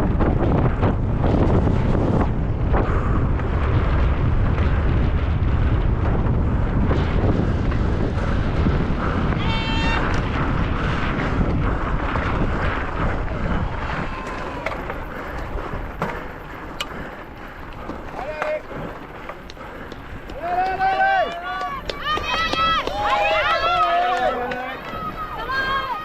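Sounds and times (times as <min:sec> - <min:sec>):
bike knocks and rattles: 0:00.0 - 0:22.9
constant rumble: 0:00.0 - 0:26.0
wind rush on microphone: 0:00.0 - 0:26.0.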